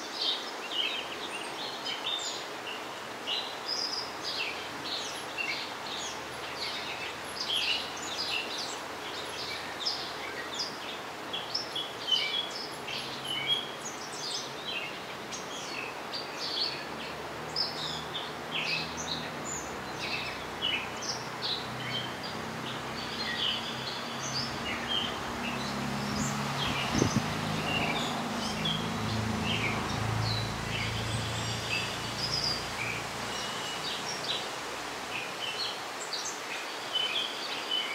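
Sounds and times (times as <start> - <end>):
small songbirds chirping: 0.0 - 37.9.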